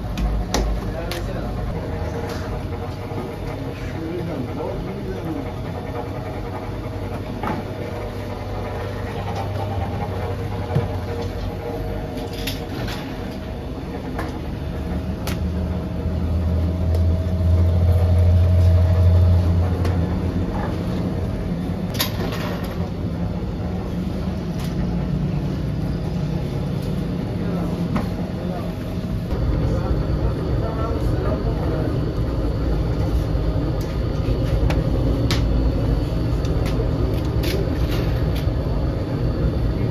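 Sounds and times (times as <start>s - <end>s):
mechanical hum and rumble: 0.0s - 39.9s.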